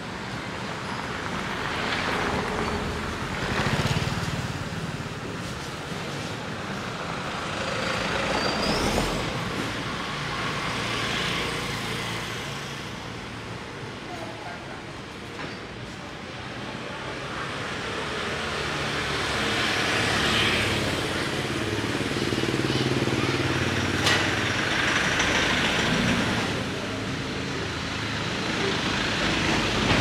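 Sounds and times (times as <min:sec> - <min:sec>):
vehicles passing close by: 0:00.0 - 0:30.0.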